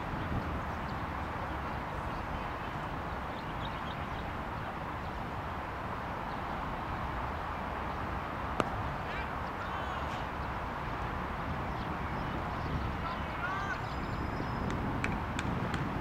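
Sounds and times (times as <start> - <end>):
distant road traffic hiss: 0.0 - 16.0
wind on microphone: 0.0 - 16.0.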